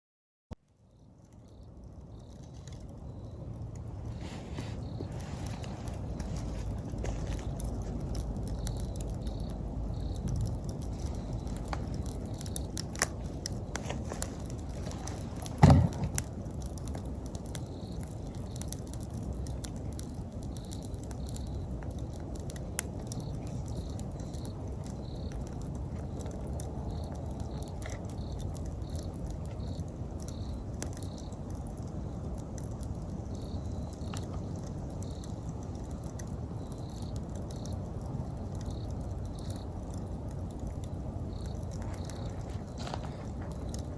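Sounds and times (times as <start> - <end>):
campfire crackling and popping: 0.6 - 43.9
insect chirping: 0.8 - 43.9.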